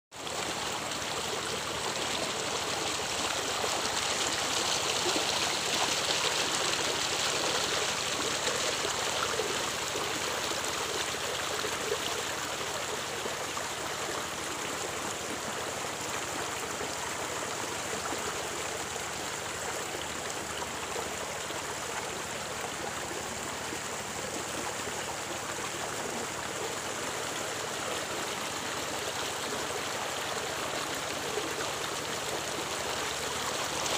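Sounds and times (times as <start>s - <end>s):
stream rippling over rocks: 0.1s - 33.9s.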